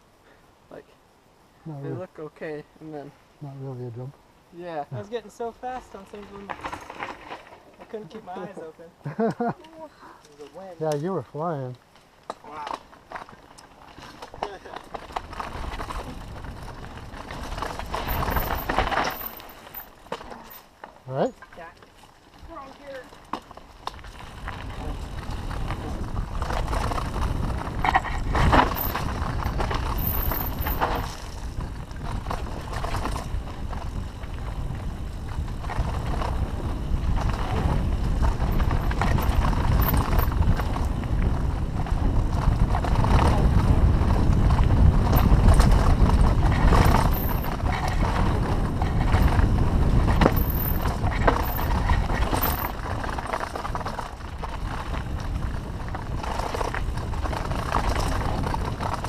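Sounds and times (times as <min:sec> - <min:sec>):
bike tyres rumbling over dirt: 0:05.5 - 0:08.1, 0:10.6 - 0:59.0
bike clicks and rattles: 0:06.3 - 0:08.1, 0:09.4 - 0:59.0.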